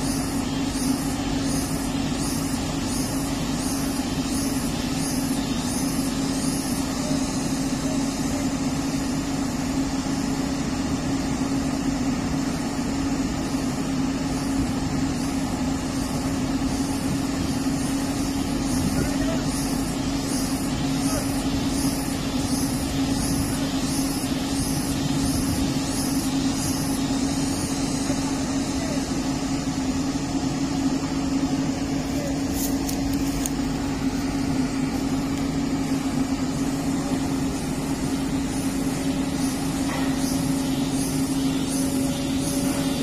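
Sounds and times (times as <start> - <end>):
excavator diesel engine humming: 0.0 - 43.0.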